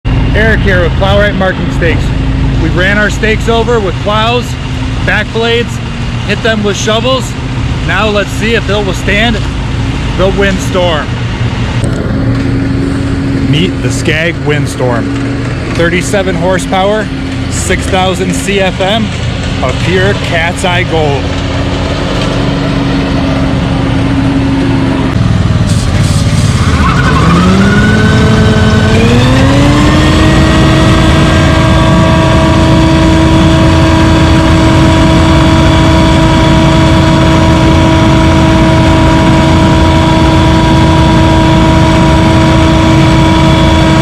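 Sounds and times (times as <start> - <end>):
debris blower whine: 0.1 - 44.0.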